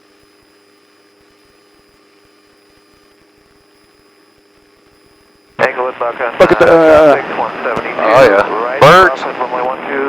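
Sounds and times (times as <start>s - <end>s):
faint steady hiss: 0.2s - 10.0s.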